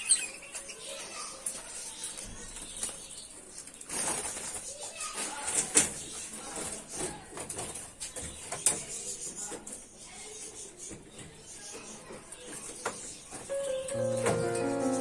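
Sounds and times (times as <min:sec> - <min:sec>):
budgerigars fluttering and chirping: 0:00.0 - 0:13.6.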